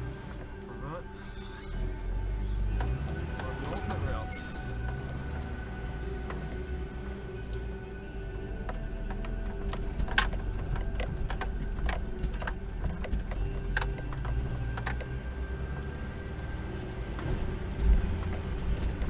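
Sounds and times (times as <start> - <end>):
car body rattling: 0.0 - 19.0
car engine rumbling: 0.0 - 19.0
wind: 0.0 - 19.0.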